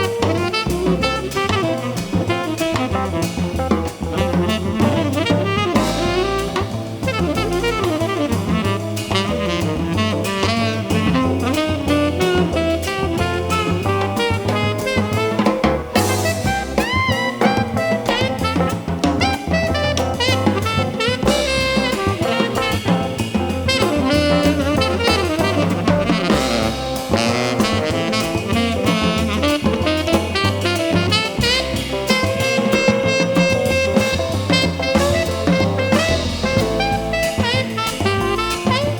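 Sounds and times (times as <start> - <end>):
bass: 0.0 - 38.9
drum kit: 0.0 - 38.9
keyboard: 0.0 - 38.9
saxophone lead: 0.0 - 38.9.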